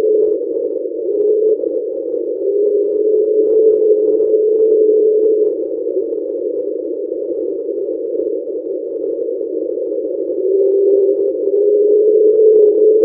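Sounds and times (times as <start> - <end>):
pure tone: 0.0 - 13.0
rough low underwater drone: 0.0 - 13.0.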